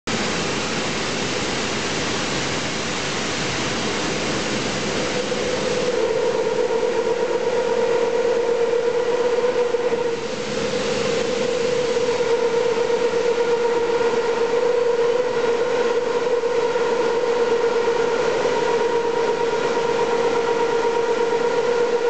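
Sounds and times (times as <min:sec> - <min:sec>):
steady machine whine: 0:00.1 - 0:22.0.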